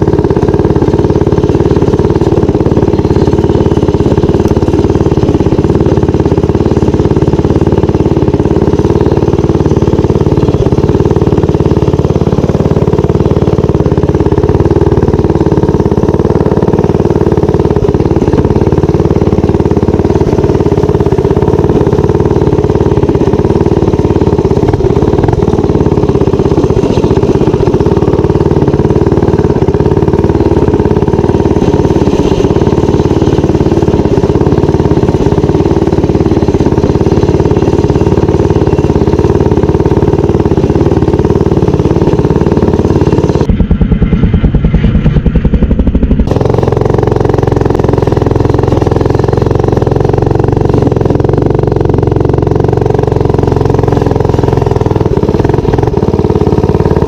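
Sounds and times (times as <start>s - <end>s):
minibike engine running: 0.0s - 57.0s.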